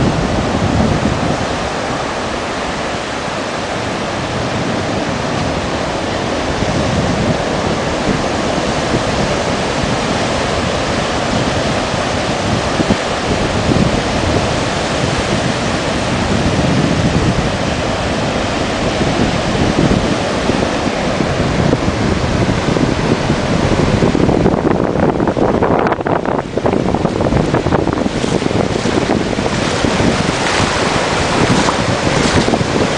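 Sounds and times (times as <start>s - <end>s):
sea surf rushing: 0.0s - 32.9s
wind buffeting microphone: 0.0s - 32.9s.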